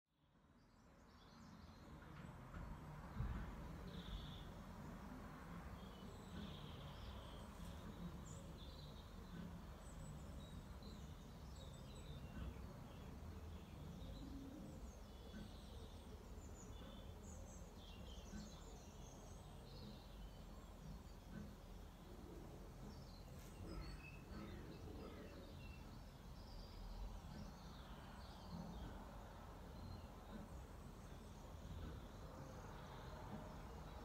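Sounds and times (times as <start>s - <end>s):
faint bird chirps: 3.2s - 34.0s.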